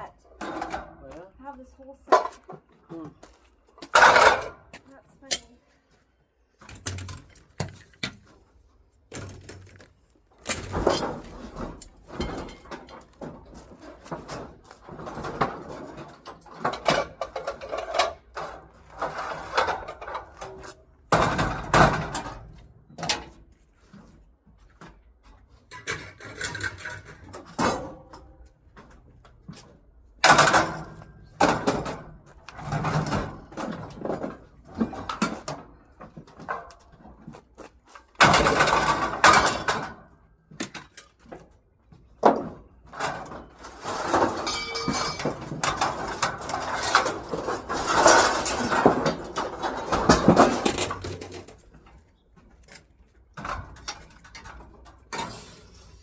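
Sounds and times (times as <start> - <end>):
scrap metal clanking and rattling: 0.1 - 1.3, 3.7 - 5.6, 9.1 - 56.0.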